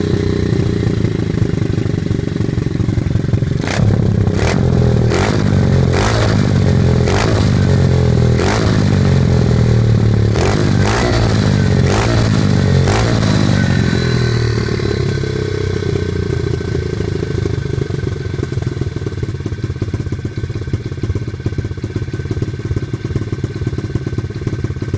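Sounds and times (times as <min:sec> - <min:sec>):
motorbike engine revving and idling: 0:00.0 - 0:24.9.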